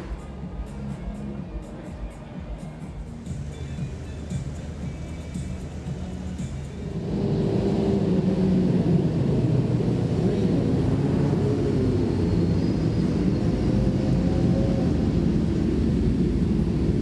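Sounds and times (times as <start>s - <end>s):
racing motorcycle engines droning: 0.0s - 17.0s.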